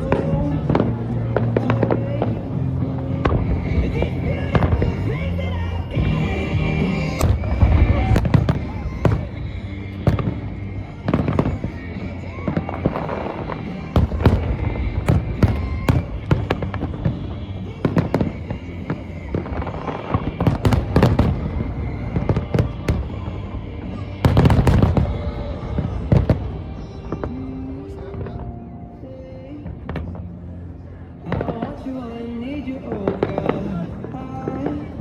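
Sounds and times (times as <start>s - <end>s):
fireworks banging: 0.0s - 28.7s
music: 0.0s - 35.0s.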